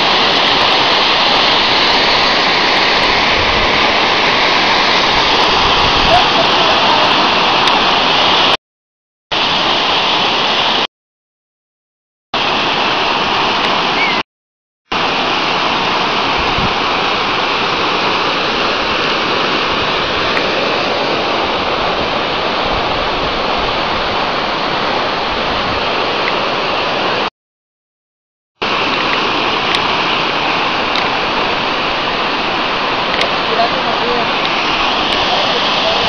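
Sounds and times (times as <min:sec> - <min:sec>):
waterfall rushing over rocks: 0:00.0 - 0:08.6, 0:09.3 - 0:10.9, 0:12.4 - 0:14.2, 0:14.9 - 0:27.3, 0:28.6 - 0:36.0.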